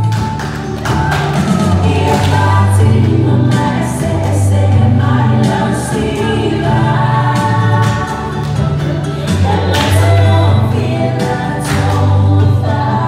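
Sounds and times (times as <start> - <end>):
bass line: 0.0 - 13.0
voices singing together: 0.9 - 13.0.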